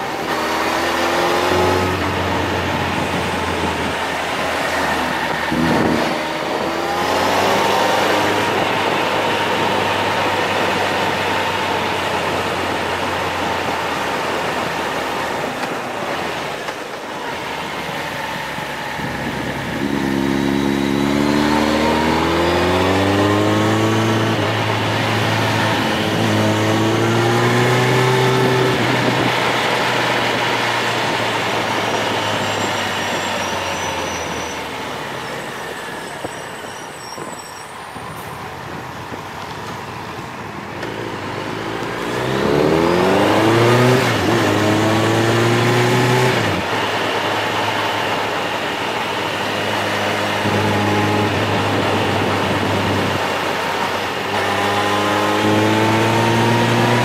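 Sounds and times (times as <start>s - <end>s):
vehicle engine revving: 0.0s - 15.8s, 17.3s - 36.0s, 40.5s - 57.0s
wind and road rush: 0.0s - 57.0s.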